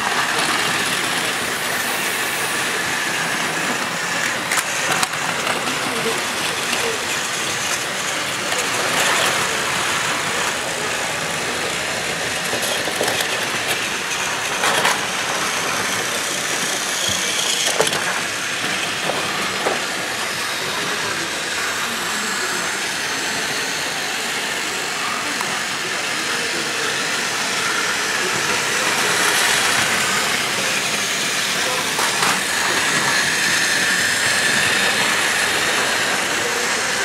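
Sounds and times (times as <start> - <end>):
toy trains whirring and rattling: 0.0 - 37.0.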